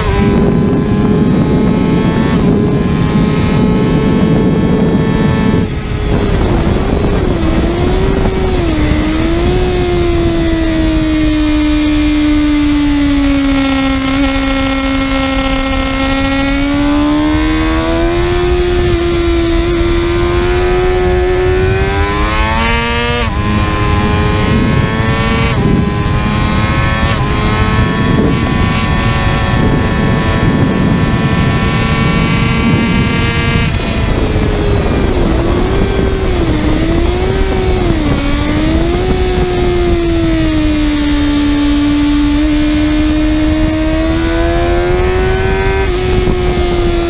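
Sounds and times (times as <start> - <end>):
motorcycle engine revving high: 0.0 - 47.0
wind noise: 0.0 - 47.0.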